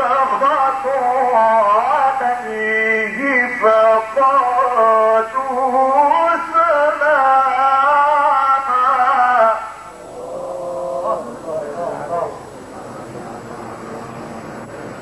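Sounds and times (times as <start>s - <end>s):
man chanting recitation: 0.0s - 14.4s.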